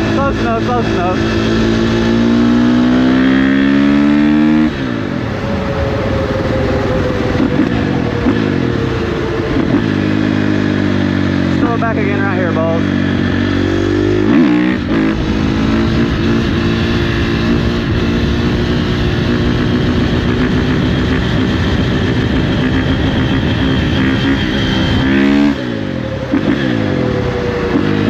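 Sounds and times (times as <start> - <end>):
motorcycle engine revving high: 0.0 - 28.0.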